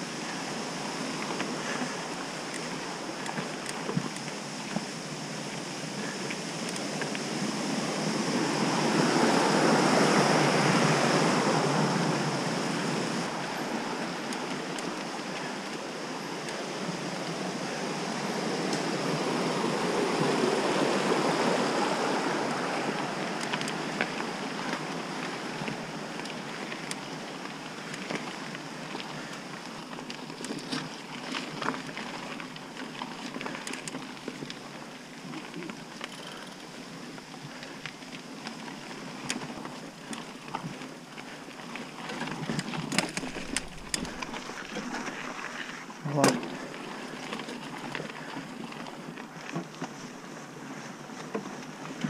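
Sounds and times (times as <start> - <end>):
tyres rolling over gravel: 0.2 - 52.0.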